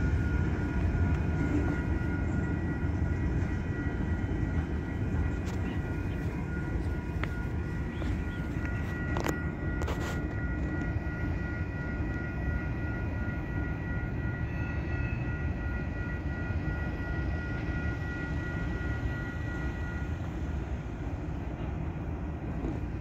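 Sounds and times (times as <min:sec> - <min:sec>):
high whine: 0:00.0 - 0:23.0
train rumbling: 0:00.0 - 0:23.0.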